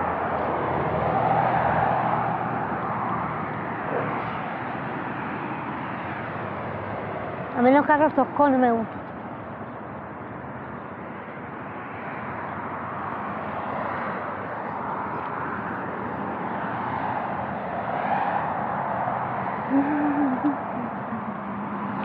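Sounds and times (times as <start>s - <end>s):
passing vehicles rushing: 0.0s - 22.0s.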